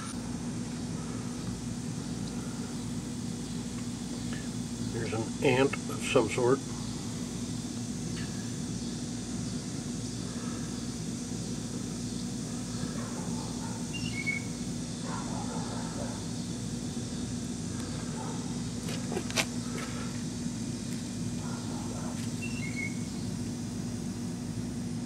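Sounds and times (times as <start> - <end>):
background hiss: 0.0 - 25.0
low mechanical hum: 0.0 - 25.0.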